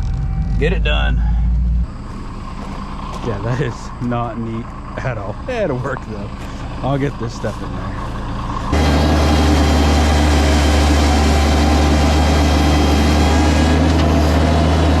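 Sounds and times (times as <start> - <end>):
skid steer engine droning: 0.0 - 15.0.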